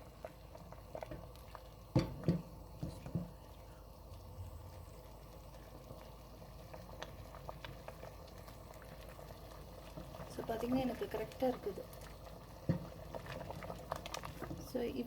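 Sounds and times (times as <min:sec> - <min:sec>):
soup bubbling: 0:00.0 - 0:15.0.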